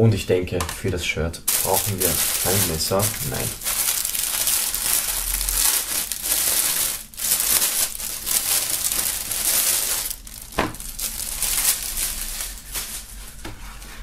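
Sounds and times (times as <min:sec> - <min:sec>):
plastic film crinkling: 0:01.5 - 0:13.6.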